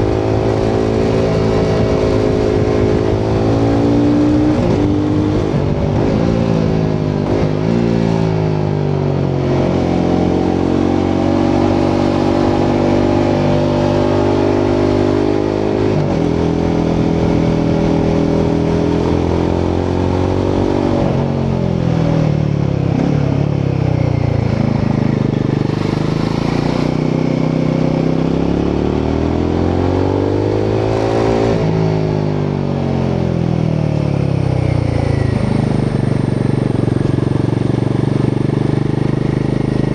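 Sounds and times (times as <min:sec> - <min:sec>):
motorcycle engine exhaust note: 0:00.0 - 0:32.0, 0:33.4 - 0:39.9.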